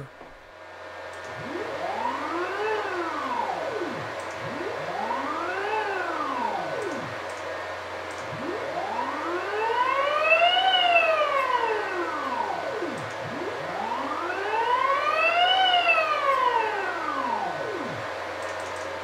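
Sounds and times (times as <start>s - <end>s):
stepper motor whine: 1.2s - 7.2s, 8.3s - 18.2s.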